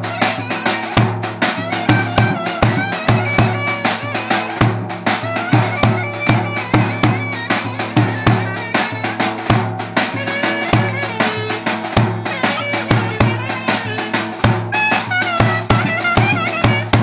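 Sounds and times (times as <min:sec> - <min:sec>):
drum strikes: 0:00.0 - 0:17.0
reed wind instrument melody: 0:00.0 - 0:17.0.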